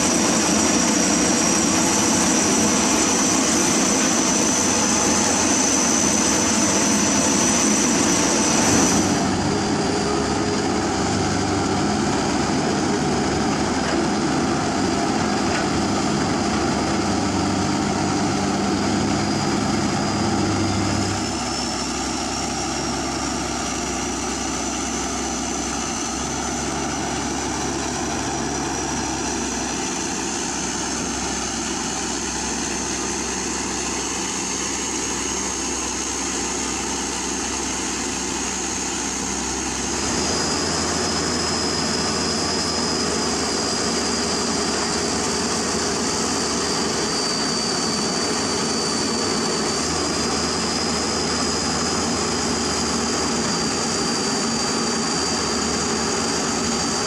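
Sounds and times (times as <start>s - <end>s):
excavator diesel engine running: 0.0s - 57.0s
steady high whine: 0.0s - 57.0s.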